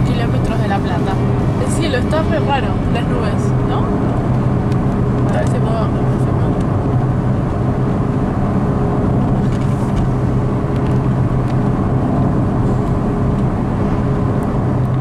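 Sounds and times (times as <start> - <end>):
car engine drone: 0.0 - 15.0
tyre and road noise: 0.0 - 15.0.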